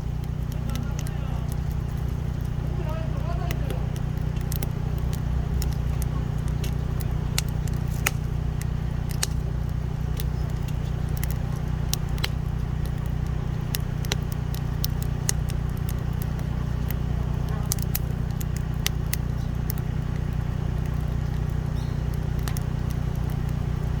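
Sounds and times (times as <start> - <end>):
campfire wood crackling: 0.0 - 24.0
low rumble: 0.0 - 24.0
sharp pops: 0.0 - 24.0.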